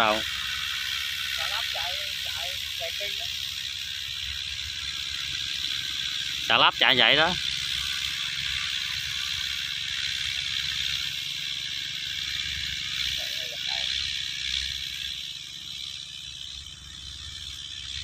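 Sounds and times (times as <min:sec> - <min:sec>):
distant tractor rumbling: 0:00.0 - 0:18.0.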